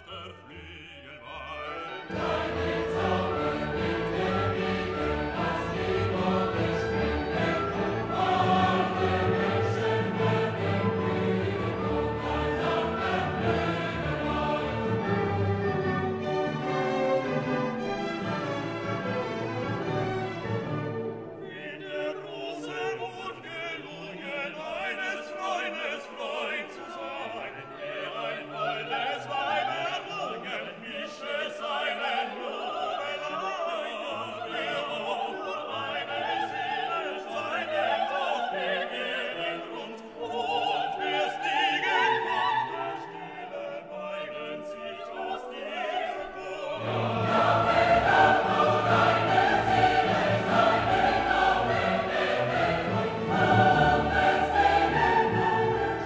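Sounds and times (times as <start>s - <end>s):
operatic choir with orchestra: 0.0s - 56.0s.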